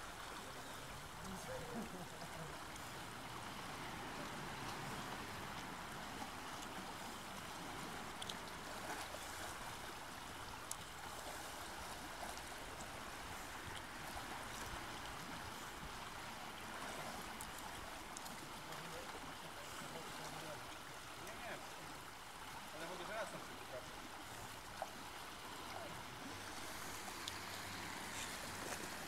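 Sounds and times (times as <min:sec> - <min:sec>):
faint splashes: 0:00.0 - 0:29.0
river water rushing: 0:00.0 - 0:29.0.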